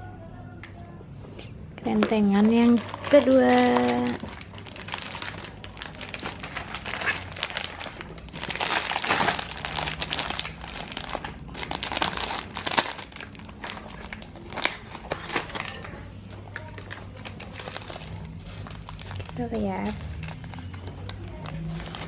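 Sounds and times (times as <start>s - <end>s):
plastic wrappers crinkling: 1.8s - 22.0s.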